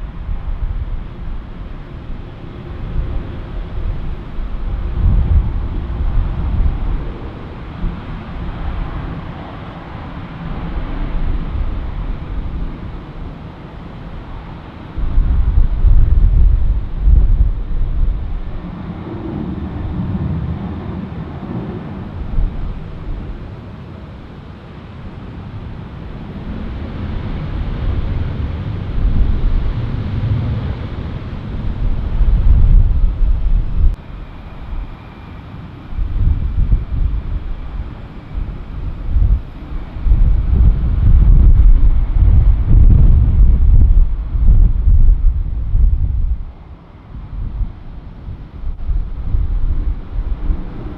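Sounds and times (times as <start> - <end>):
distant jet engines roaring: 0.0 - 50.9
steady rushing background: 0.0 - 50.9
wind buffeting microphone: 0.0 - 50.9.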